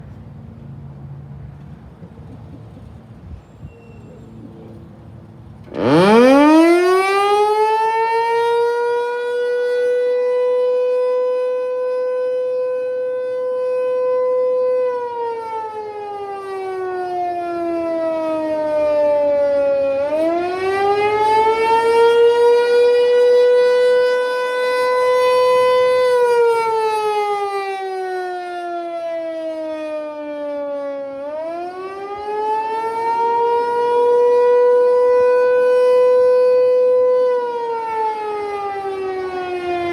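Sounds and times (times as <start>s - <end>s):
warning siren wailing: 5.6s - 39.9s.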